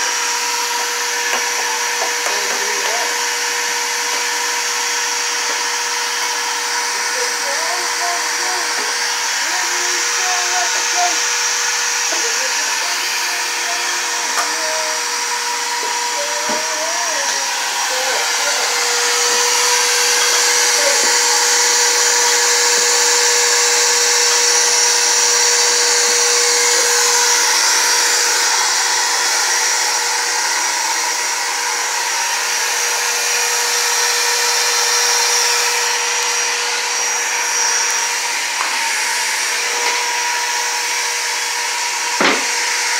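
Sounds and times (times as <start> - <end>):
shop vacuum motor whine: 0.0 - 42.9.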